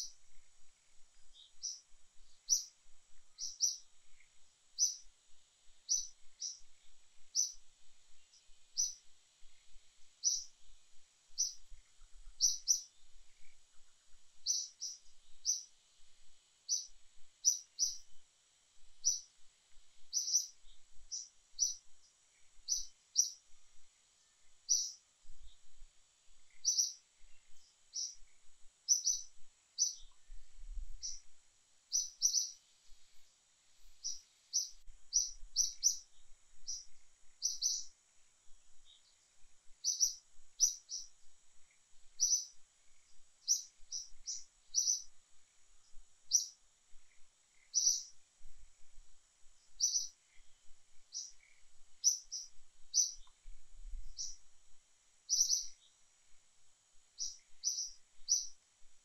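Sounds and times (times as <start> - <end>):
bird chirping: 0.0 - 5.1, 5.7 - 15.8, 16.6 - 18.2, 19.0 - 25.8, 26.5 - 38.0, 38.7 - 48.2, 49.6 - 54.5, 55.3 - 56.0, 57.2 - 58.6.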